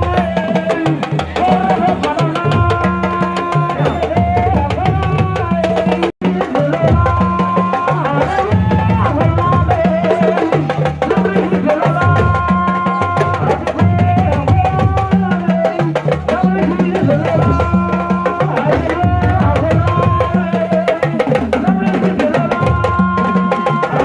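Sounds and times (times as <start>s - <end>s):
music with fast dense drumming: 0.0s - 24.0s.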